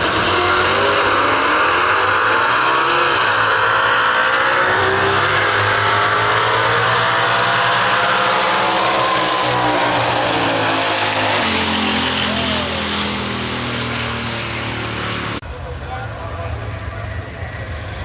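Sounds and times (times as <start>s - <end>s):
drag cars accelerating at full throttle: 0.0s - 18.0s.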